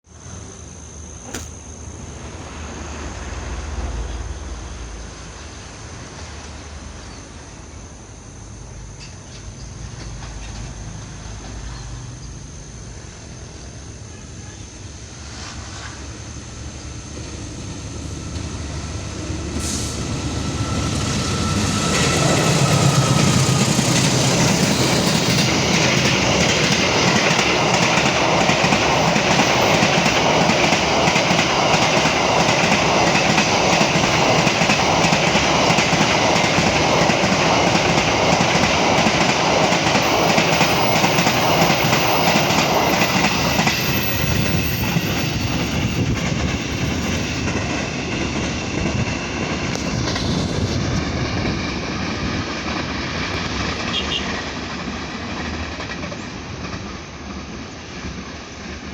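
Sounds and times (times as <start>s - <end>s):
rail noise: 0.1s - 58.9s
freight train passing: 0.2s - 14.0s, 14.7s - 58.9s.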